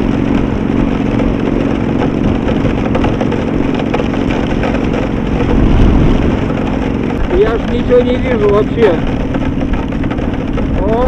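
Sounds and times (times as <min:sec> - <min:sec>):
motorcycle engine cruising: 0:00.0 - 0:11.0
rain on microphone: 0:00.0 - 0:11.0
wind rushing on microphone: 0:00.0 - 0:11.0.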